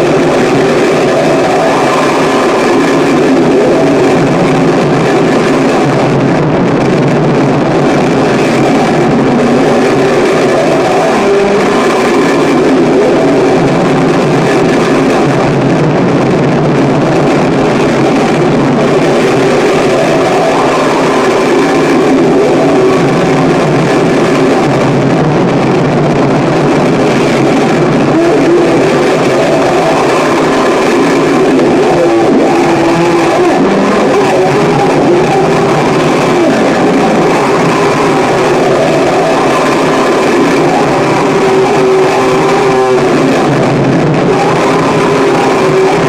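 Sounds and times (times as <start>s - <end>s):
distorted harsh noise music: 0.0s - 46.0s
droning tones: 0.0s - 46.0s.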